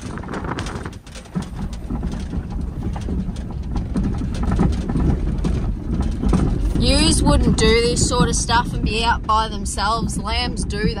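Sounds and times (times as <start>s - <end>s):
knocks and rattles: 0.0s - 11.0s
vehicle rumbling over rough ground: 0.0s - 11.0s.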